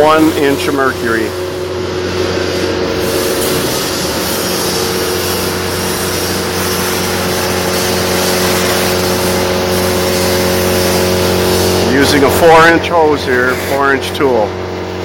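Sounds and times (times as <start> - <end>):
vacuum motor and blower hum: 0.0 - 15.0
air rushing through hose: 0.2 - 12.7.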